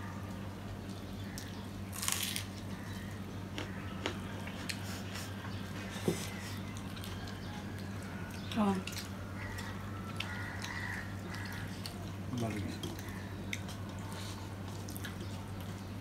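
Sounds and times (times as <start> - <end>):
chewing and mouth sounds: 0.8 - 16.0.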